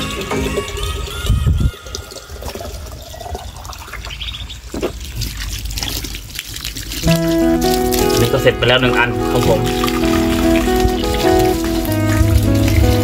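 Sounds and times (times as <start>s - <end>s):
water trickling from hose: 0.0s - 13.0s.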